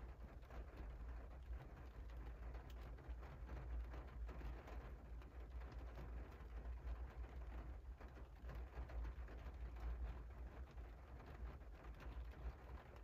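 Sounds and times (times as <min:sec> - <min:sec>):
rain on window pane: 0:00.0 - 0:13.0.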